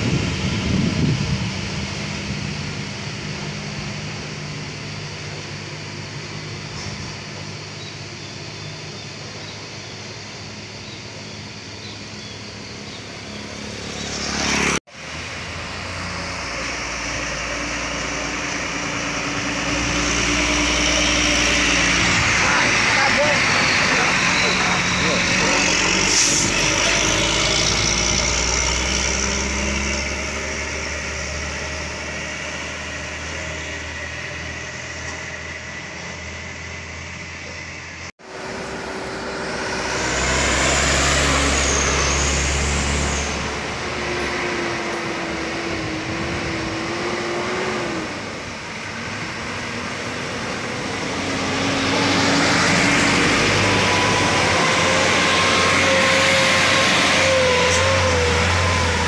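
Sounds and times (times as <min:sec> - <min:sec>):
diesel truck engines labouring: 0:00.0 - 0:59.0.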